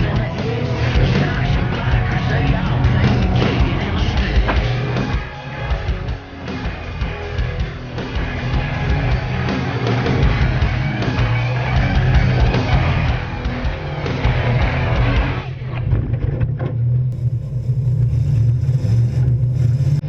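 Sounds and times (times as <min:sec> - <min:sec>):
distorted guitar: 0:00.0 - 0:20.0
drums: 0:00.0 - 0:20.0.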